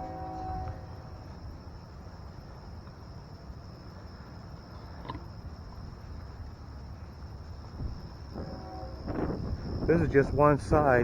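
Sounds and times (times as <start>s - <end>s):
high-pitched insect trill: 0.0s - 11.0s
low outdoor rumble: 0.0s - 11.0s.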